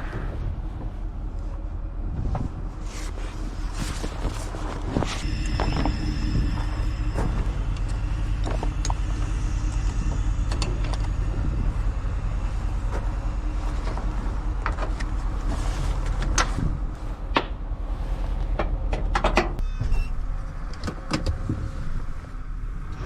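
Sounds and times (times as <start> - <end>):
engine idling: 0.0 - 19.6.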